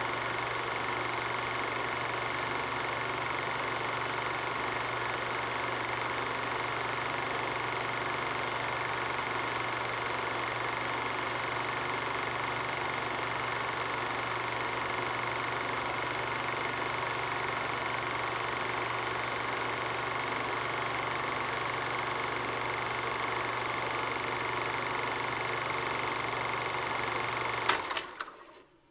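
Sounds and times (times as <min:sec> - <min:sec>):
film projector whirring: 0:00.0 - 0:28.8.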